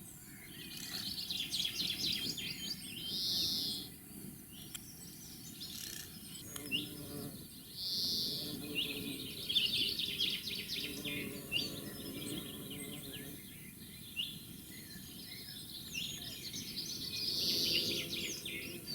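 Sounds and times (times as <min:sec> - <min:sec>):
birds chirping and trilling: 0:00.0 - 0:18.9.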